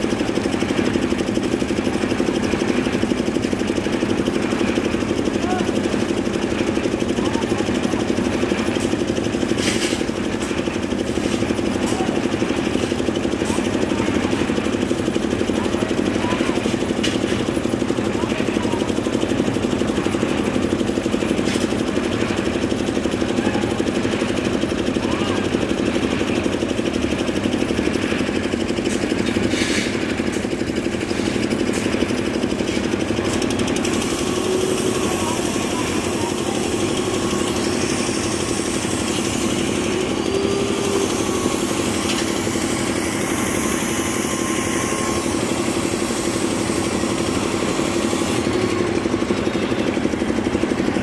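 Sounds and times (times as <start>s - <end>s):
concrete mixer engine chugging: 0.0s - 51.0s.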